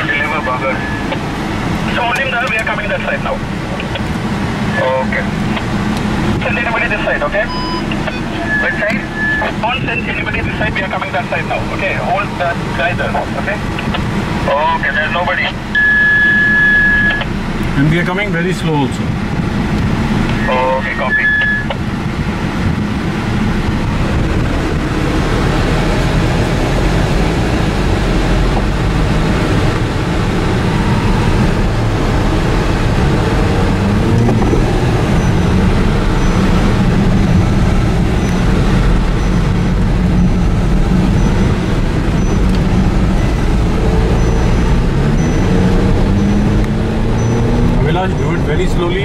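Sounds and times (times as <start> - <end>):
car engine from inside cabin: 0.0 - 49.0
tyre road noise: 0.0 - 49.0.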